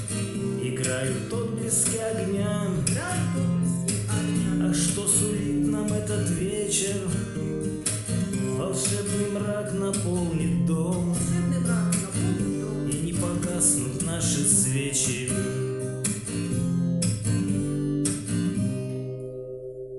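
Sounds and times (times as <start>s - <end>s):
acoustic guitar strumming: 0.0s - 19.9s.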